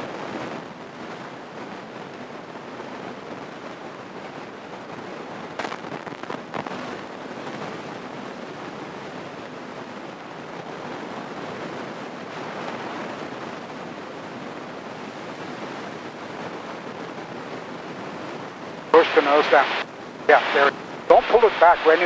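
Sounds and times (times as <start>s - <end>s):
airplane cabin engine noise: 0.0s - 22.0s.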